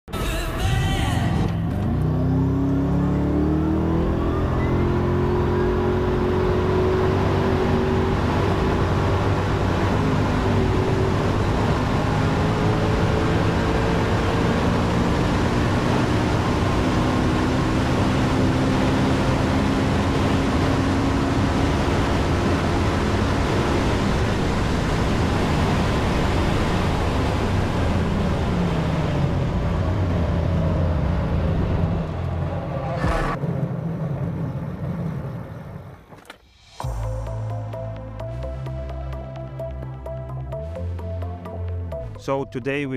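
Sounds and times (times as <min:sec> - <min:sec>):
wind and road noise: 0:01.1 - 0:42.2
car engine accelerating: 0:01.2 - 0:42.5.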